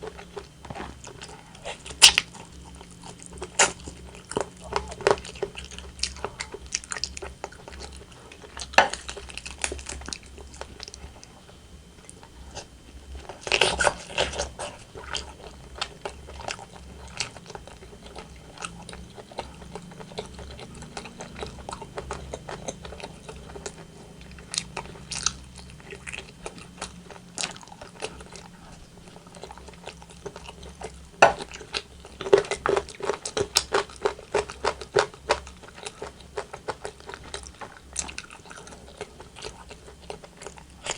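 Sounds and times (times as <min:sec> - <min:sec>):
wet chewing and crunching: 0:00.0 - 0:40.9.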